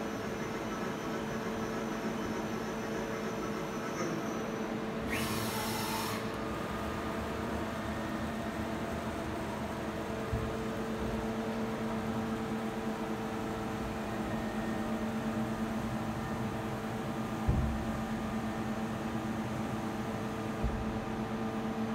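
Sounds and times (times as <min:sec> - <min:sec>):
lathe two-tone mechanical hum: 0:00.0 - 0:21.9.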